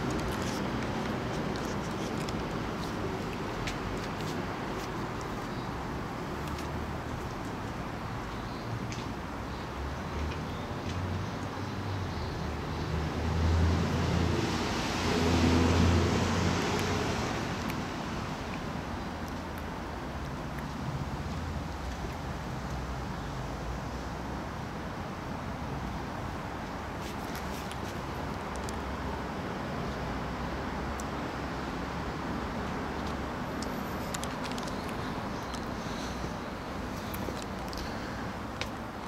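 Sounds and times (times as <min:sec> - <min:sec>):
distant road traffic rumble: 0:00.0 - 0:39.0.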